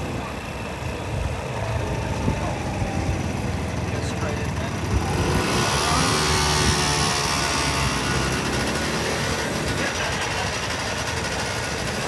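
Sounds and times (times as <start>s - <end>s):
motor scooter engine running: 0.0s - 12.0s.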